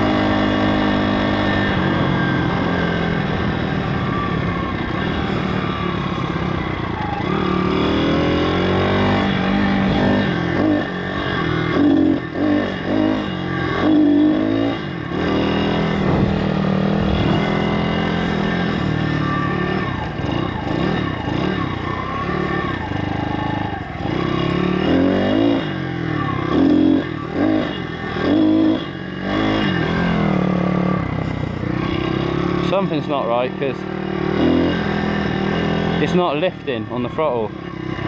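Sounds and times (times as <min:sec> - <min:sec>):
motorbike engine revving: 0:00.0 - 0:38.0.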